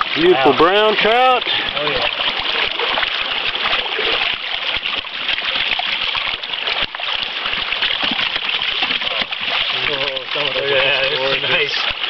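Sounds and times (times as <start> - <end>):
stream water rushing and splashing: 0.0 - 12.0.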